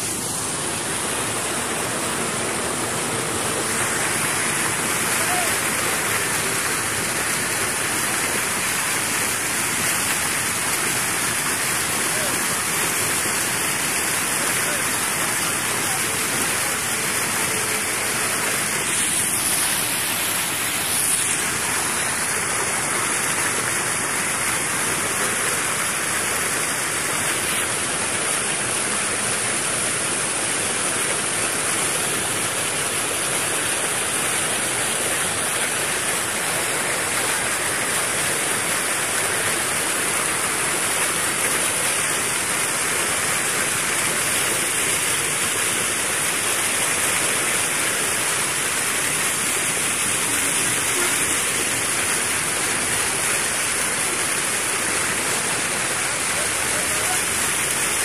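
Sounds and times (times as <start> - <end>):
water rushing in rapids: 0.0 - 58.0.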